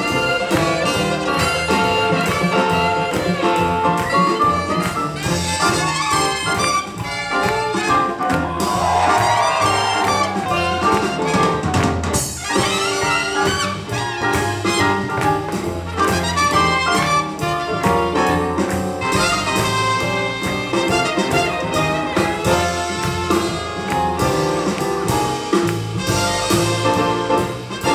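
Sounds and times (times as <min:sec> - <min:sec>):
trumpet and trombone: 0:00.0 - 0:24.2, 0:26.0 - 0:27.9
swing jazz band playing: 0:00.0 - 0:27.9.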